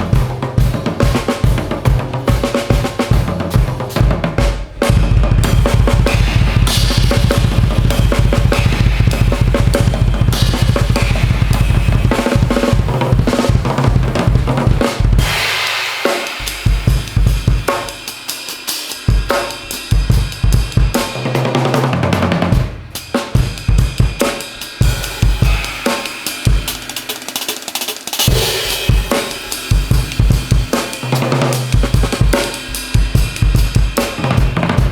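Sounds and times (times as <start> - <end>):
drum kit playing: 0.0 - 34.9
cymbal crash: 4.4 - 21.3, 22.6 - 34.9.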